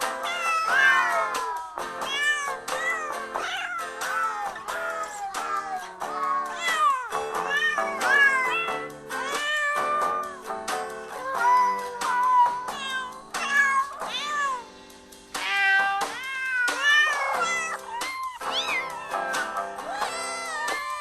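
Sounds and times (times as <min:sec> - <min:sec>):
kitten meowing: 0:00.2 - 0:10.2, 0:11.2 - 0:14.6, 0:15.4 - 0:21.0.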